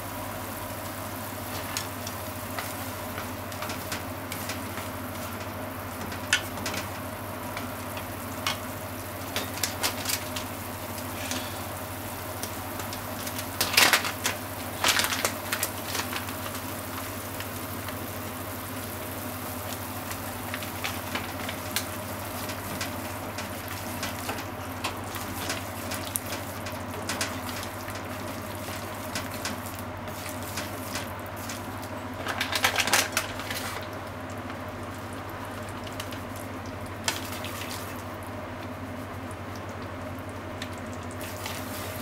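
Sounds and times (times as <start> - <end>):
sauce bubbling and crackling: 0.2 - 42.0.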